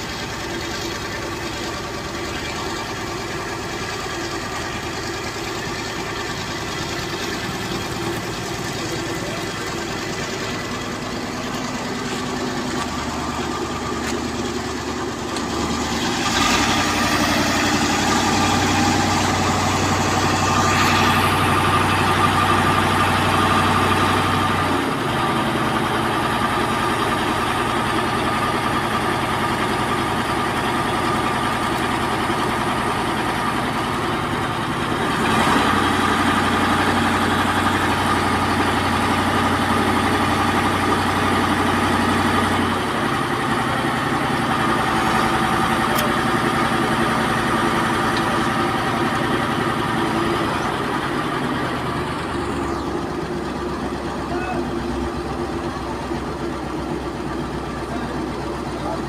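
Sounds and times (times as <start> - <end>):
heavy diesel engines running: 0.0 - 59.0.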